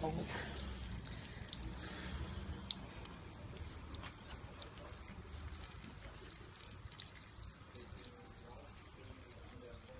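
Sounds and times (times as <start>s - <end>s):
water dripping: 0.0s - 9.9s.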